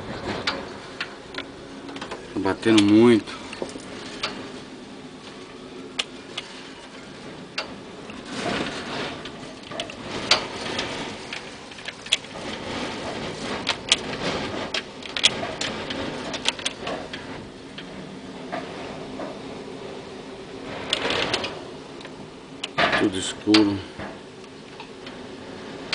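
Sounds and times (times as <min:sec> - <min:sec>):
rushing wind: 0:00.0 - 0:25.9.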